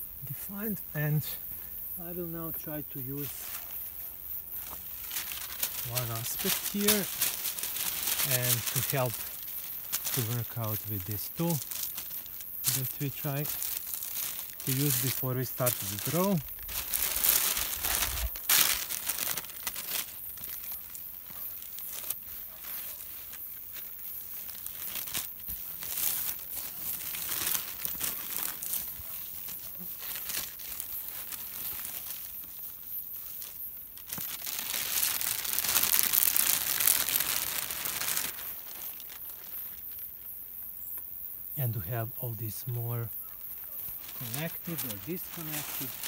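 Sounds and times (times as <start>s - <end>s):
crinkly sheet crackling and rustling: 2.1s - 40.3s, 41.6s - 46.0s.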